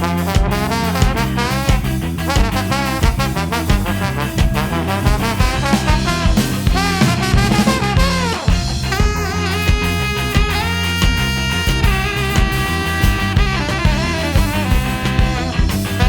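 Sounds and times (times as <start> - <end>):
drums: 0.0 - 16.0
horn section playing melody: 0.0 - 16.0
walking electric bass: 0.0 - 16.0.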